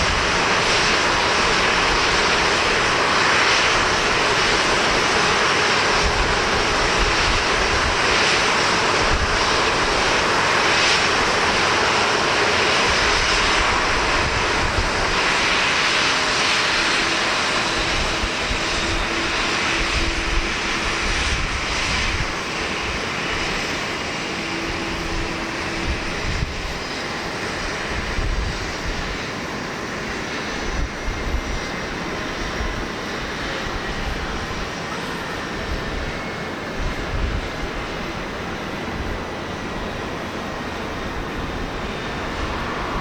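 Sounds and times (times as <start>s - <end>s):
jet engines at takeoff power: 0.0s - 43.0s
wind buffeting microphone: 0.0s - 43.0s.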